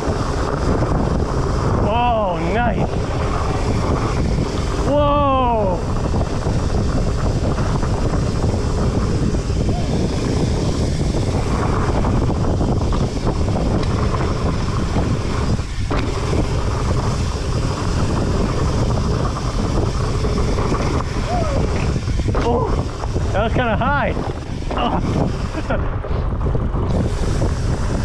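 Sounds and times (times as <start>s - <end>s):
bike tyres rumbling on dirt: 0.0s - 28.0s
wind buffeting microphone: 0.0s - 28.0s.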